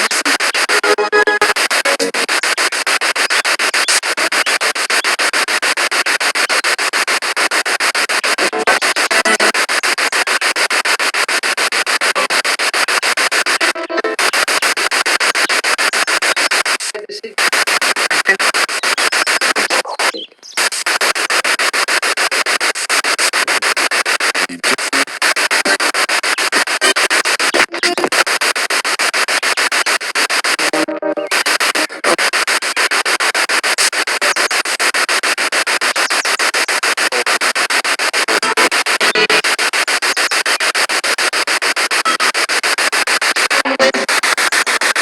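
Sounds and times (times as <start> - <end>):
radio static pulses: 0.0 - 45.0
snatches of broadcast sound: 0.0 - 45.0.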